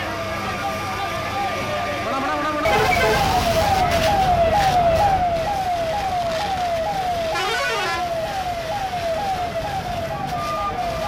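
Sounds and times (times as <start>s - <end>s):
emergency siren sweeping: 0.0s - 11.0s
higher swooping siren tone: 1.8s - 11.0s.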